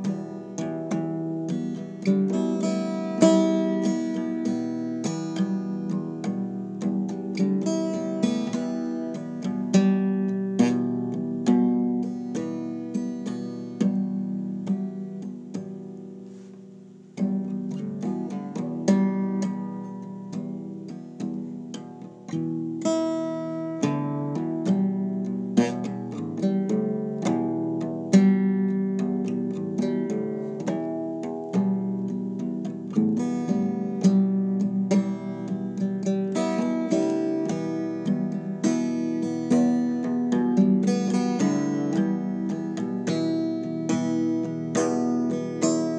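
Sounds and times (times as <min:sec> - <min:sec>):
acoustic guitar playing: 0:00.0 - 0:45.9.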